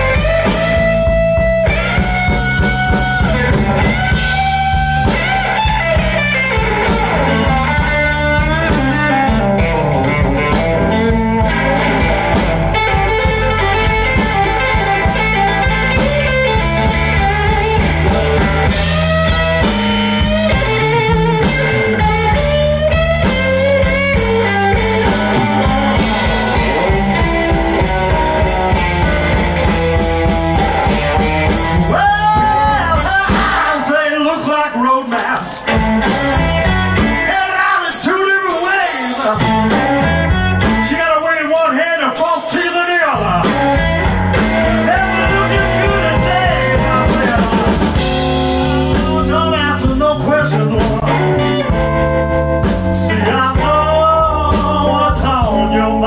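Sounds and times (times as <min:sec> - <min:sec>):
electric guitar lead lines: 0:00.0 - 0:41.2, 0:43.0 - 0:56.0
bass guitar: 0:00.0 - 0:56.0
drum kit: 0:00.0 - 0:56.0.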